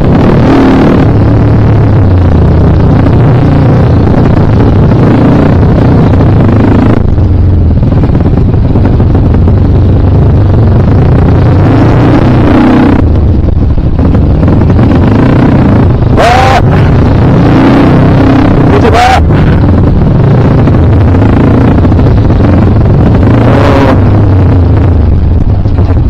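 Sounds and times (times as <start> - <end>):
dirt bike engine running hard: 0.0 - 26.0.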